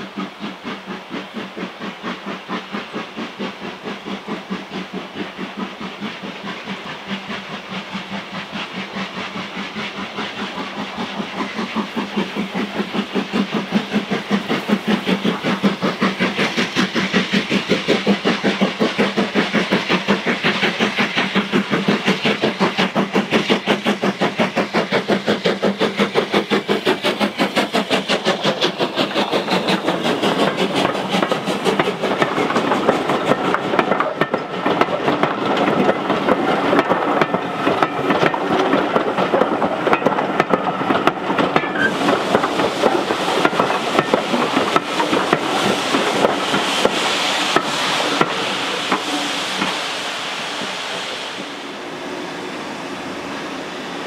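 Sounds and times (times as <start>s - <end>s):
steam locomotive exhaust beating: 0.0s - 54.0s.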